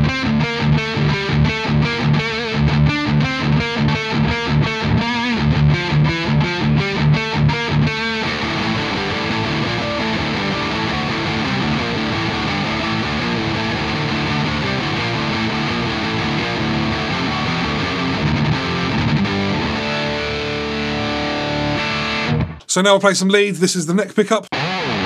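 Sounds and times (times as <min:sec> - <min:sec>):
distorted electric guitar riffing: 0:00.0 - 0:23.0, 0:24.2 - 0:25.0.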